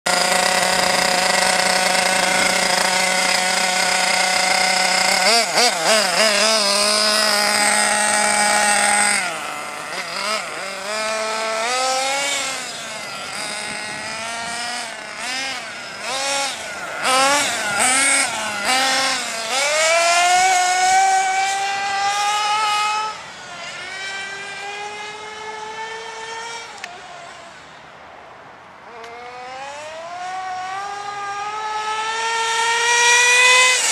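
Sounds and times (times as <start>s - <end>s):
model truck engine revving: 0.1s - 27.4s, 29.0s - 33.9s.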